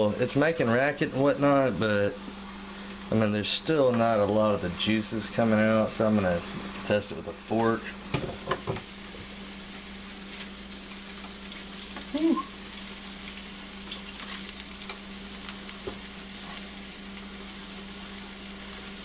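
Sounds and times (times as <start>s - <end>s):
steak sizzling and crackling: 0.0s - 19.0s.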